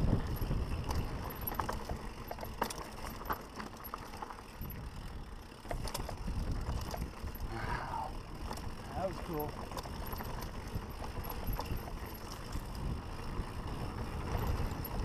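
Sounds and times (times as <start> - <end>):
bike clicking and knocking on rocks: 0.0 - 15.0
bike tyres rumbling on dirt: 0.0 - 15.0.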